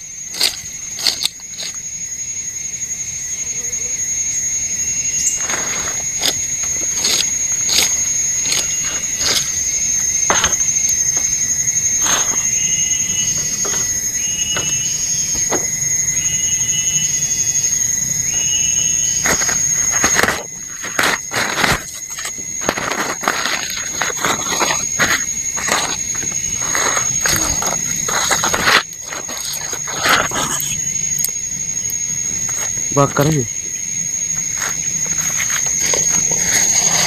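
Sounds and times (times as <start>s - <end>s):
insect trilling call: 0.0s - 37.0s
insects buzzing: 0.0s - 37.0s.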